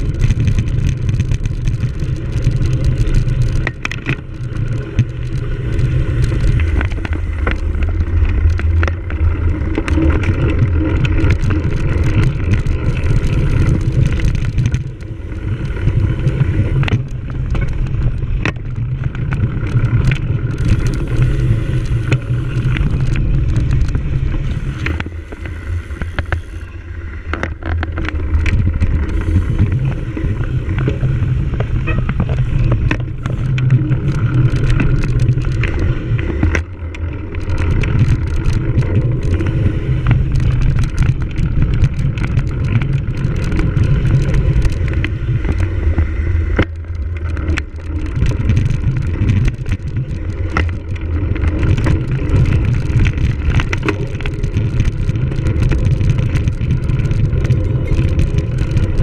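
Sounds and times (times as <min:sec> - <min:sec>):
bike frame clicks and rattles: 0:00.0 - 0:59.0
tyre noise on dirt: 0:00.0 - 0:59.0
wind on microphone: 0:00.0 - 0:59.0.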